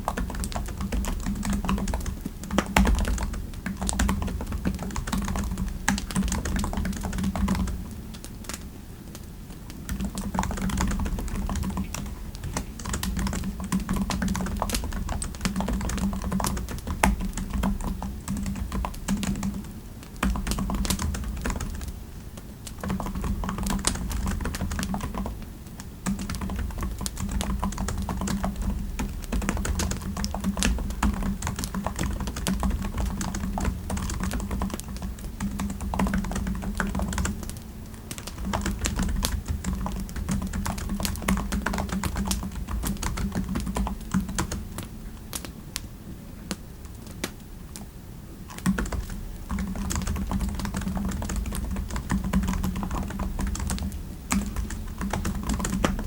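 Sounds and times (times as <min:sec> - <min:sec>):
typing on computer keyboard: 0:00.0 - 0:22.0, 0:22.6 - 0:45.5, 0:48.5 - 0:56.0.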